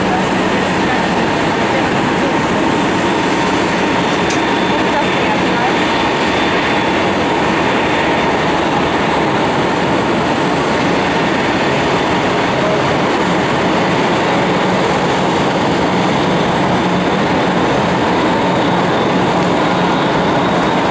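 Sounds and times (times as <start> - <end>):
jet engine roar: 0.0 - 20.9.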